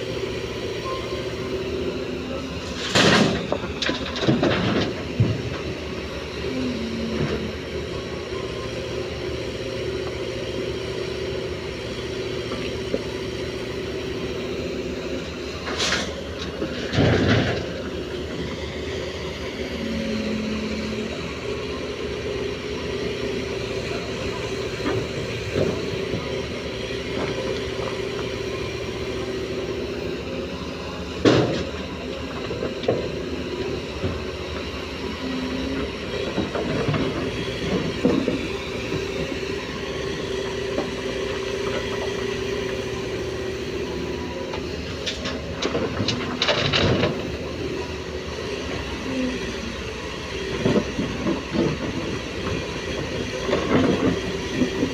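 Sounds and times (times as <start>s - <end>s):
excavator engine and hydraulics: 0.0s - 54.9s.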